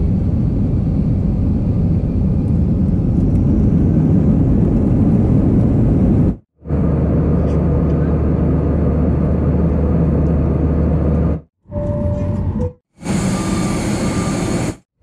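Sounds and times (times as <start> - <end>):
airliner cabin rumble: 0.0 - 14.8.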